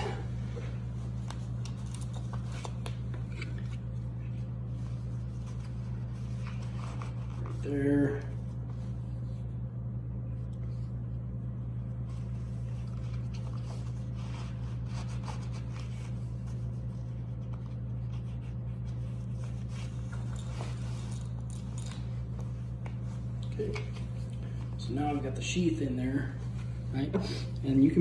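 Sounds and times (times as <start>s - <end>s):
clothing rustling: 0.0s - 9.5s, 11.9s - 27.1s
steady low hum: 0.0s - 28.0s.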